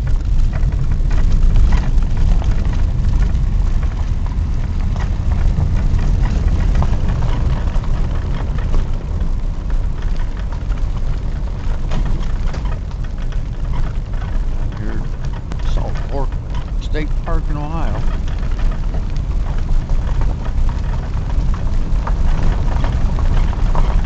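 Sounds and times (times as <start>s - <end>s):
engine and tyres rumbling: 0.0s - 24.0s
small knocks and rattles: 0.0s - 24.0s.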